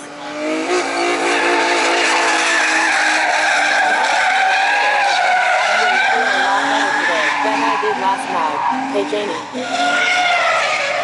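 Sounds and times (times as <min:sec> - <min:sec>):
car engine running: 0:00.0 - 0:11.0
tires screeching: 0:00.0 - 0:11.0.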